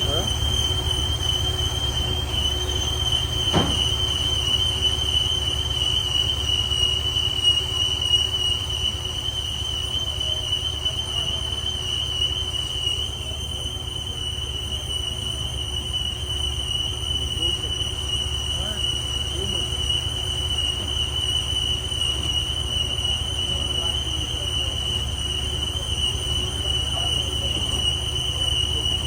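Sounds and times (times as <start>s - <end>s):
boring machine whine: 0.0s - 29.0s.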